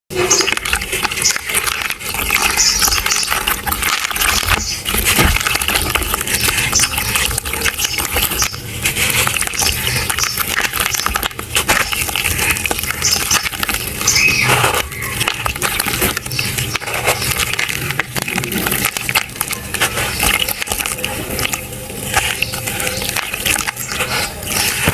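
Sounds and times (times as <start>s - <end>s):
dry sand clumps crunching: 0.1s - 24.9s.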